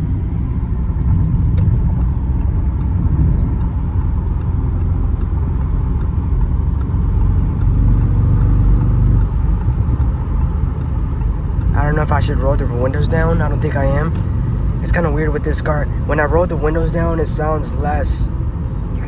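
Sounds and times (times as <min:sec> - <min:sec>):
car exhaust rumble: 0:00.0 - 0:19.0
road noise: 0:00.0 - 0:19.0.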